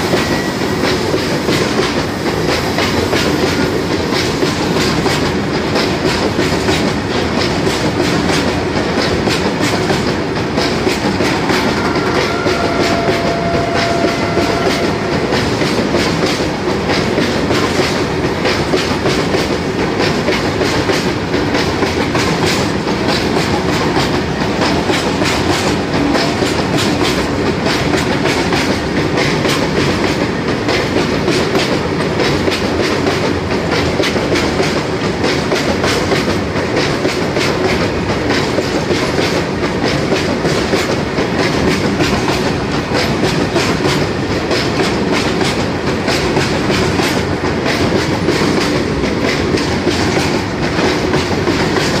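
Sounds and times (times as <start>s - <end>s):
freight train rumbling: 0.0s - 52.0s
wheels clicking over rail joints: 0.0s - 52.0s.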